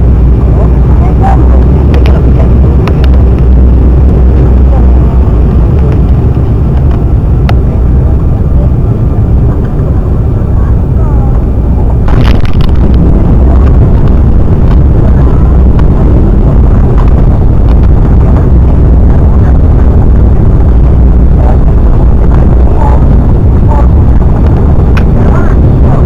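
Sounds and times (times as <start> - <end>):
jet cabin low rumble: 0.0 - 26.0.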